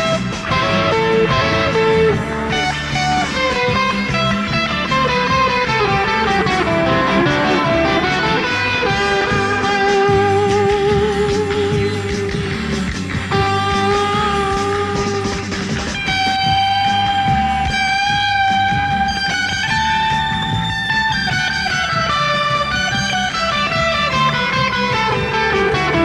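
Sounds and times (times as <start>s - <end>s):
bass and drums backing track: 0.0s - 26.0s
surf electric guitar lead: 0.0s - 26.0s.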